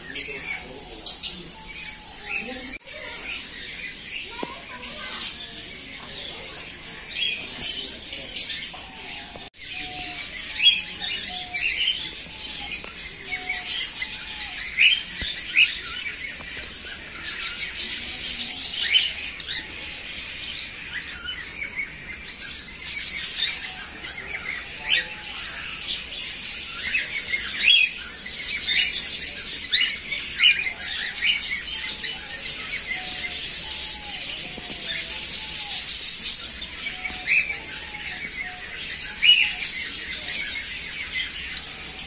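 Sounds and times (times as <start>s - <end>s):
parrots chirping and squawking: 0.0s - 42.0s.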